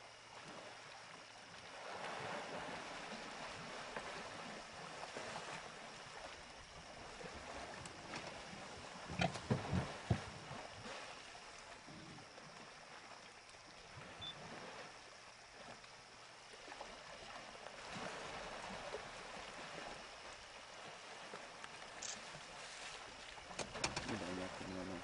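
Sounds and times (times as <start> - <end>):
water sloshing and splashing: 0.0 - 25.0.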